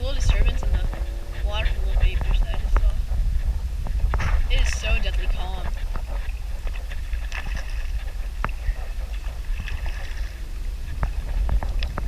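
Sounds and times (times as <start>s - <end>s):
kayak on water low rumble: 0.0s - 12.0s
water splashes: 0.0s - 12.0s.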